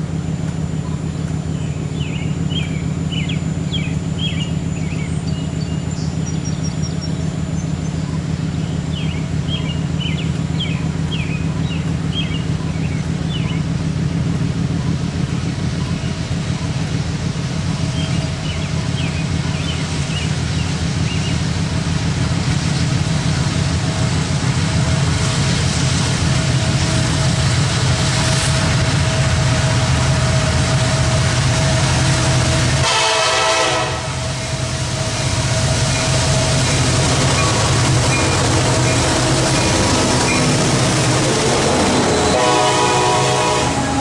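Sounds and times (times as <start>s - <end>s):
distant locomotive drone: 0.0s - 44.0s.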